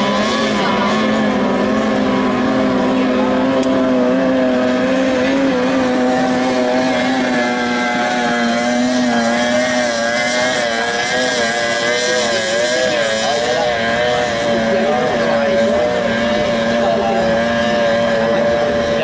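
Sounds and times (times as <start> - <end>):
outboard engines droning: 0.0 - 19.0.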